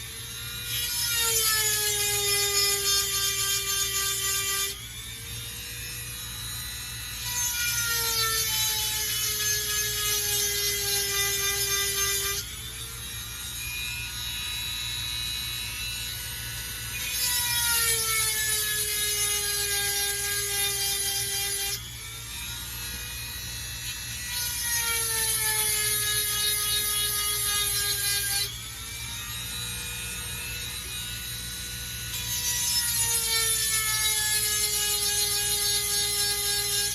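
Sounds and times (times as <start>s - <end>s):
rotary tool motor whining: 0.0s - 36.9s.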